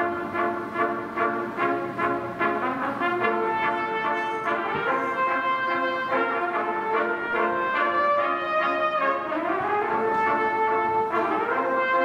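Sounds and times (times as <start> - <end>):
brass ensemble playing: 0.0 - 12.0.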